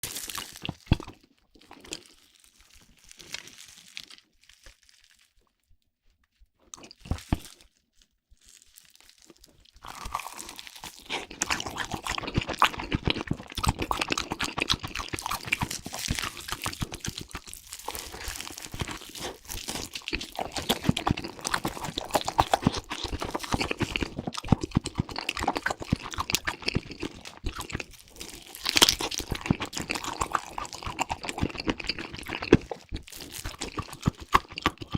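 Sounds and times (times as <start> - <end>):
crunching and chewing: 0.0 - 5.6, 6.3 - 34.9.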